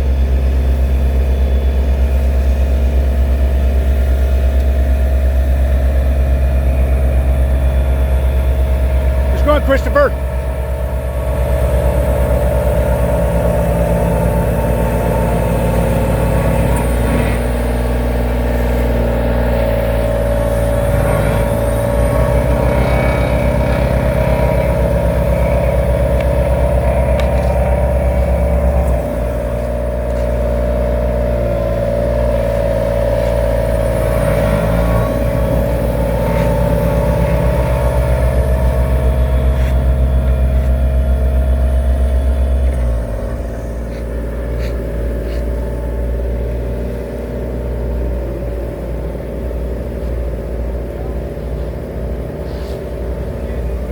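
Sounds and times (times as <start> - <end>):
constant higher hum: 0.0 - 53.9
heavy diesel machinery running: 0.0 - 53.9.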